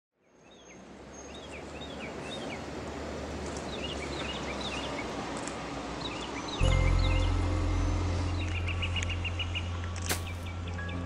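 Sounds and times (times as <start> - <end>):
bird chirping: 0.2 - 2.7, 3.5 - 5.2, 6.0 - 11.0.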